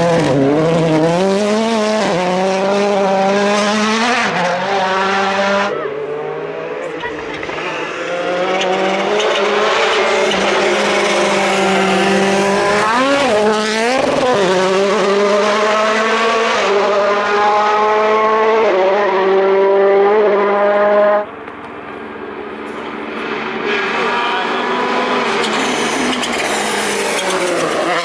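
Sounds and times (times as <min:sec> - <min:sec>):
distant car engine: 0:00.0 - 0:28.0
rally car engine revving: 0:00.0 - 0:28.0.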